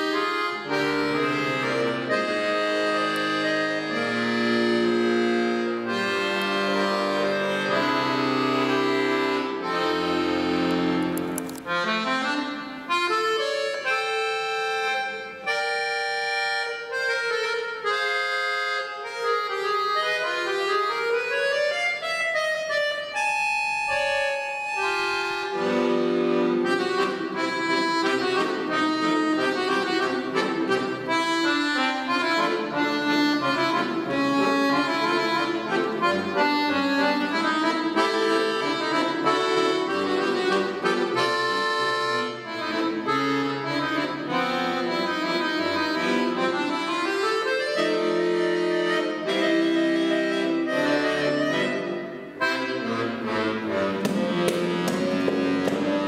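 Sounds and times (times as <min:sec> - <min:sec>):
accordion playing: 0:00.0 - 0:56.0.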